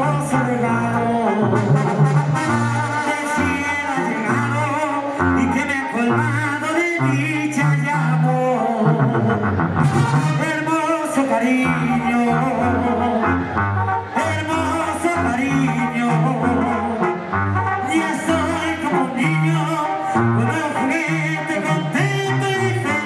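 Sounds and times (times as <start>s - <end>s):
low bass line: 0.0s - 23.0s
trumpets and trombones melody: 0.0s - 23.0s.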